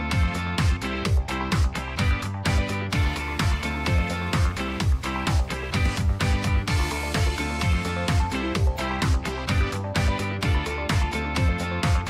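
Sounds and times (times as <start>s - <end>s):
electronic music: 0.0s - 12.0s
held bass line: 0.0s - 12.0s
steady kick drum: 0.0s - 12.0s.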